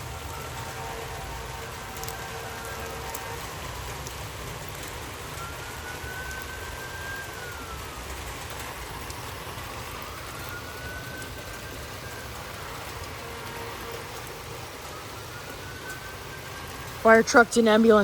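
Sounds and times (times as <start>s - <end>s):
emergency siren wailing: 0.0s - 18.0s
rain: 0.0s - 18.0s.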